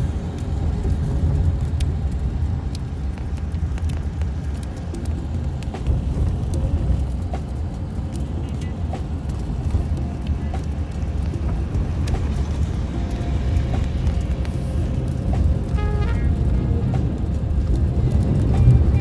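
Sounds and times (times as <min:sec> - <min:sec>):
car cabin road rumble: 0:00.0 - 0:19.0.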